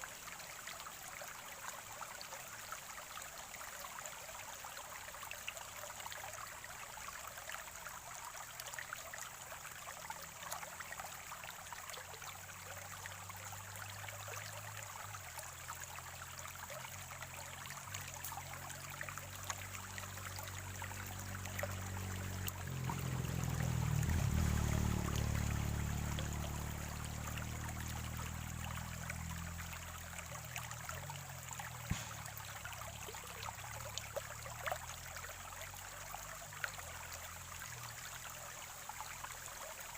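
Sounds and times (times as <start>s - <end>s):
stream gurgling: 0.0s - 39.9s.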